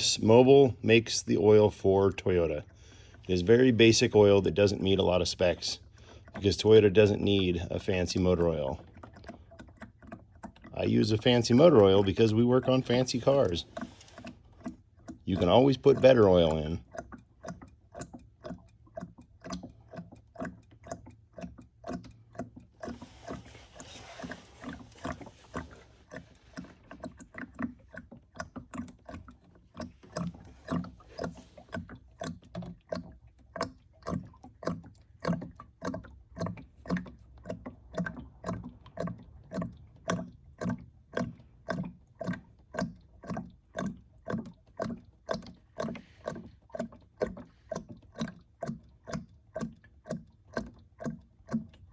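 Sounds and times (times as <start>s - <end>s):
oil glugging from a jug: 0.0s - 51.9s.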